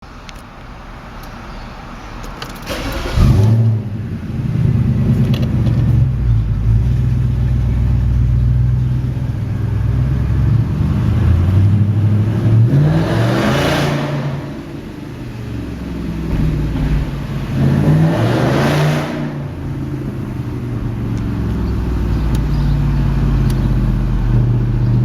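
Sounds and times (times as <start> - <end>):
loud unmuffled car engine revving: 2.9 - 25.0.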